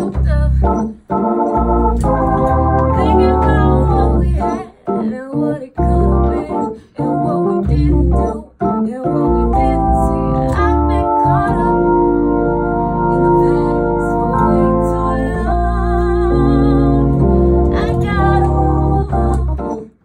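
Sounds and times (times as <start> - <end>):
woman singing soulful rnb: 0.0 - 0.9, 2.9 - 12.1, 12.9 - 19.8
organ chords with strong bass: 0.0 - 4.6, 5.8 - 8.8, 9.4 - 19.8.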